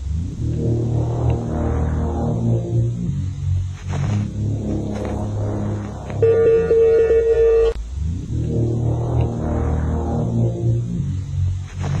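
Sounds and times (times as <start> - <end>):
music of low held notes: 0.0 - 12.0.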